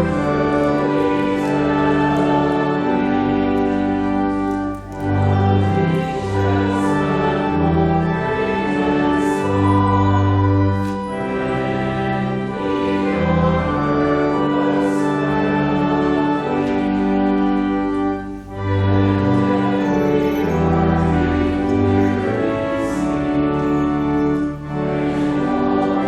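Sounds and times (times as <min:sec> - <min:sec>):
voices singing a slow hymn: 0:00.0 - 0:26.0.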